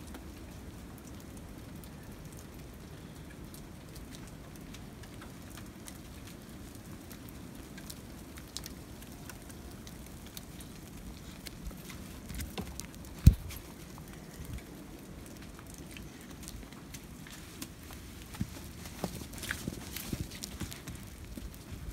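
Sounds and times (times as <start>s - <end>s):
icy snow pattering on deck: 0.0s - 21.9s.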